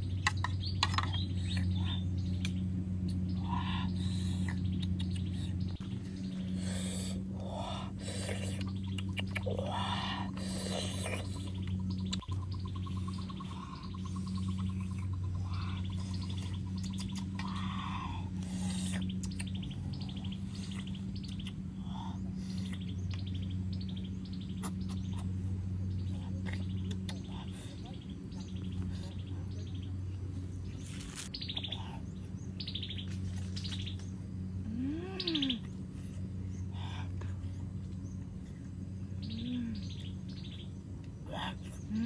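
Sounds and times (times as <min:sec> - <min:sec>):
birds chirping: 0:00.0 - 0:42.0
low hum: 0:00.0 - 0:42.0.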